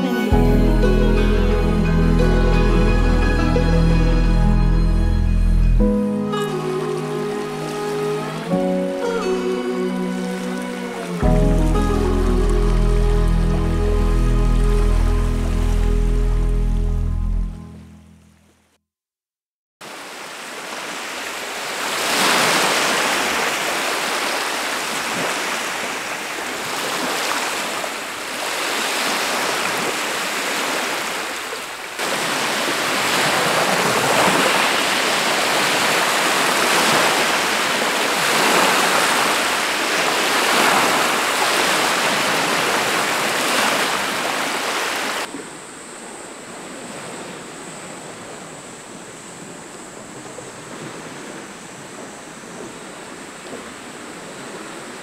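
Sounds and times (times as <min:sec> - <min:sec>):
lake waves lapping on shore: 0:06.3 - 0:16.5, 0:19.8 - 0:55.0.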